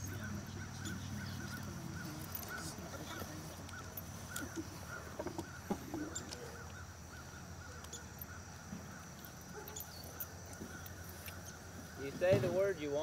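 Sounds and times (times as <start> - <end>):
open-air background noise: 0.0 - 13.0.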